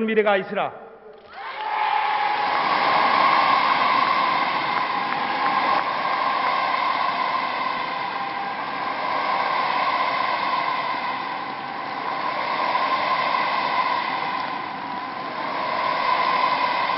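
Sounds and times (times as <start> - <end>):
crowd cheering: 1.1 - 16.9.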